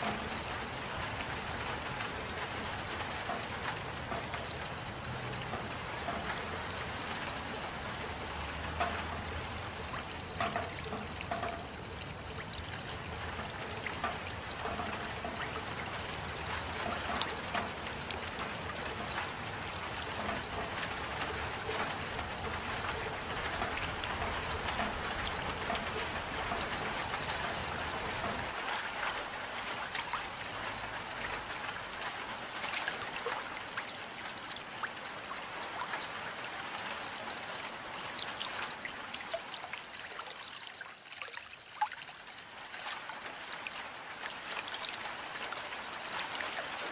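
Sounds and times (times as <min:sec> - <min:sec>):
steady rain falling: 0:00.0 - 0:46.9
water trickling: 0:00.0 - 0:46.9.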